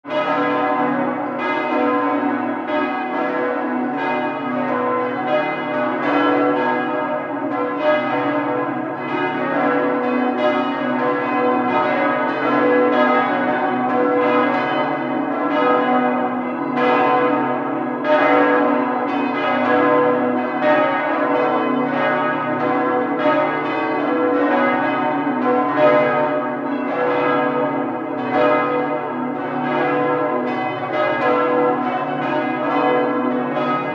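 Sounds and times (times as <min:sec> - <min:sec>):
bells ringing in a peal: 0:00.0 - 0:33.9.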